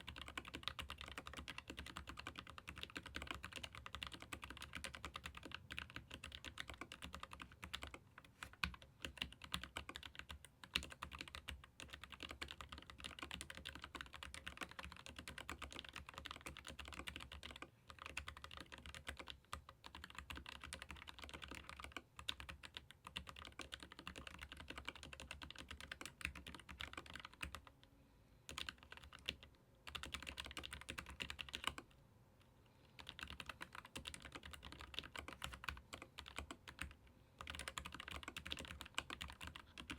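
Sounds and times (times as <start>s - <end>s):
fast typing on mechanical keyboard: 0.0s - 27.7s, 28.5s - 31.8s, 33.0s - 39.9s.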